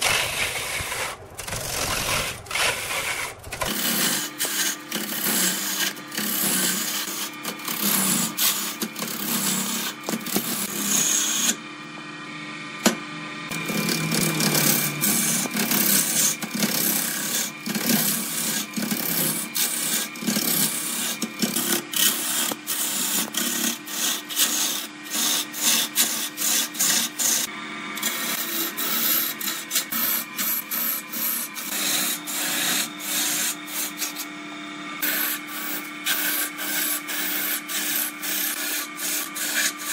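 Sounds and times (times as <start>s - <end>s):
lathe tool scraping wood: 0.0s - 11.7s, 12.8s - 39.9s
lathe humming: 0.0s - 39.9s.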